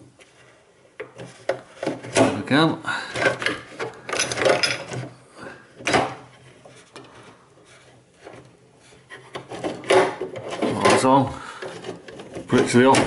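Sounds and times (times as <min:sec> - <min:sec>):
plastic rubbing and knocking: 0:00.0 - 0:05.2, 0:05.8 - 0:13.0
plastic scrape: 0:00.2 - 0:05.2, 0:06.1 - 0:13.0.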